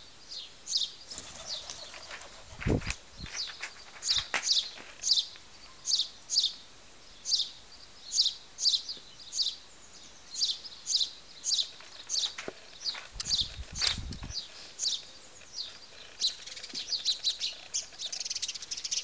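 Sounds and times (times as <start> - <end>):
small bird chirping: 0.2 - 19.0.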